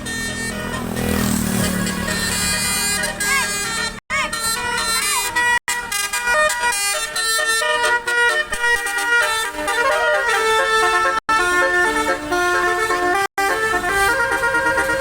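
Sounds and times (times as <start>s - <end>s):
musical bus air horn tune: 0.0s - 15.0s.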